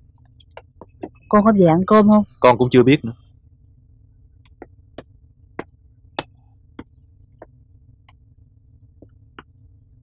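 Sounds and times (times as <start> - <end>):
faint background hum: 0.0 - 10.0.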